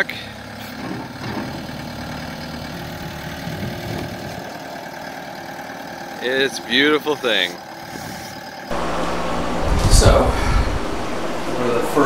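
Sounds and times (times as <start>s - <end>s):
skid-steer loader diesel engine: 0.0s - 12.0s.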